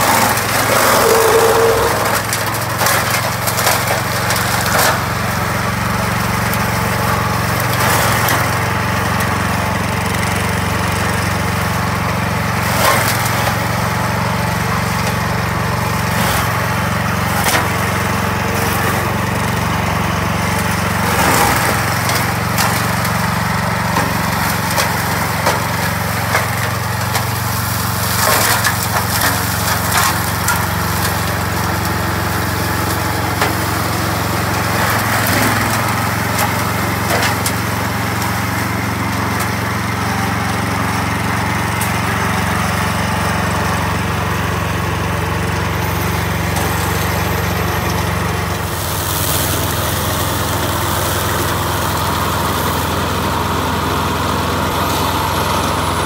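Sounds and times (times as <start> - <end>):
brush mower engine running: 0.0 - 56.0.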